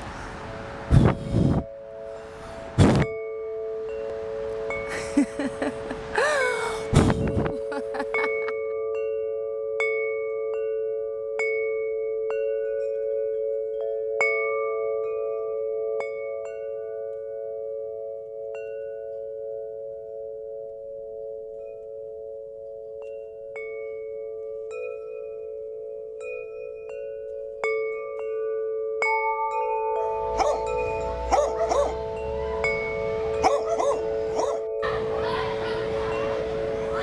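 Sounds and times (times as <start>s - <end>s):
wind chimes ringing: 0.0s - 37.0s.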